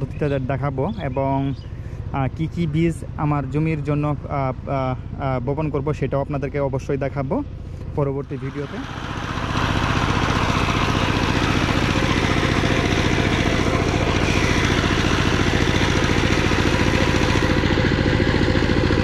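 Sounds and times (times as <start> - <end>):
diesel tiller engine running: 0.0 - 19.0.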